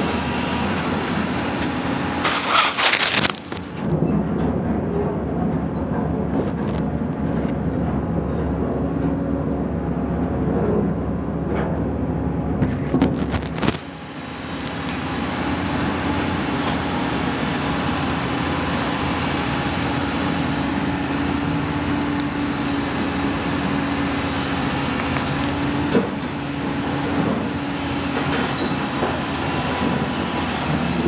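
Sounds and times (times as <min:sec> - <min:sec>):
diesel machinery running: 0:00.0 - 0:31.0.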